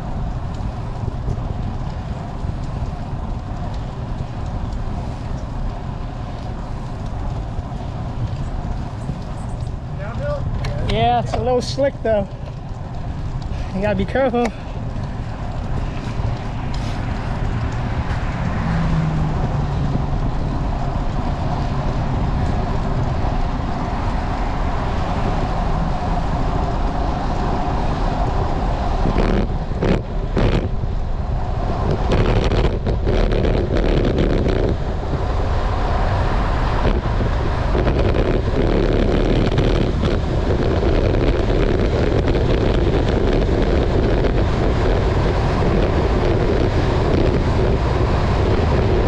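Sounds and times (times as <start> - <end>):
car traffic: 0.0 - 49.0
road noise: 0.0 - 49.0
wind noise: 0.0 - 49.0.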